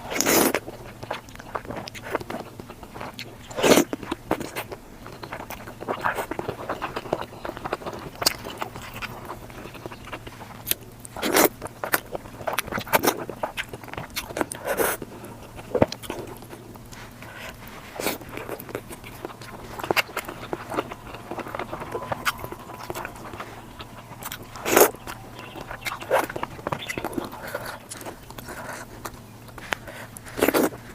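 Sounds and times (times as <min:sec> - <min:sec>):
person chewing and crunching: 0:00.0 - 0:30.9.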